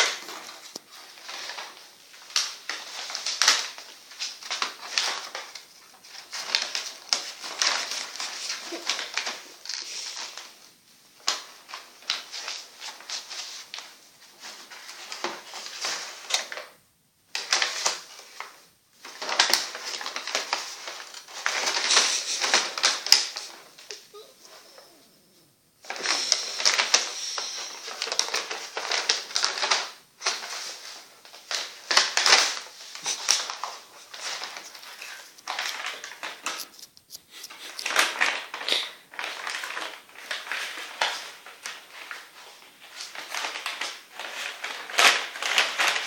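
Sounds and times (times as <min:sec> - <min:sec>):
paper bag crinkling: 0:00.0 - 0:24.9, 0:25.8 - 0:46.0.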